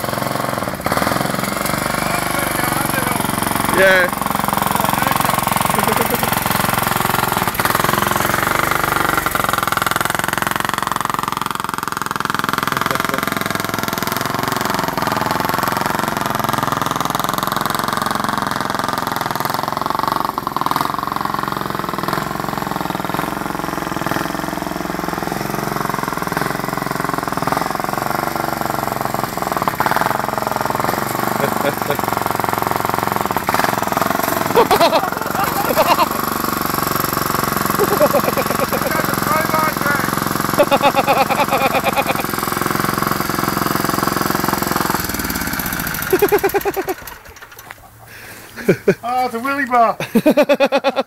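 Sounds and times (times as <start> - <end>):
ride-on lawn mower engine: 0.0 - 51.0.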